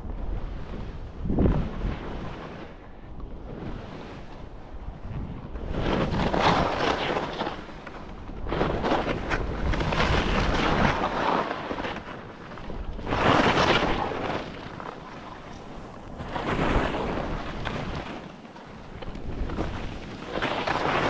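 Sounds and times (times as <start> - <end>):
wind rumbling on microphone: 0.0 - 21.0
skis sliding through snow: 0.2 - 21.0.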